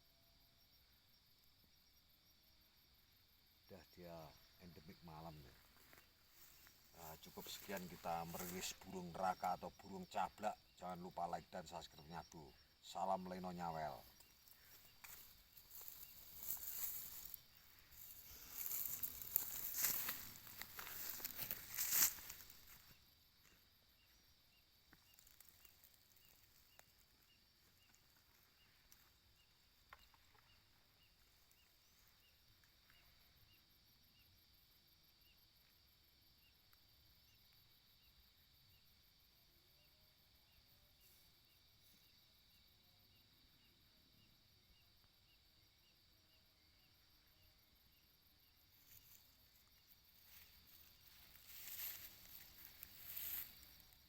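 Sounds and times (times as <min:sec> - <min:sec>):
insect chirping: 0:00.0 - 0:54.0
insect drone: 0:00.0 - 0:54.0.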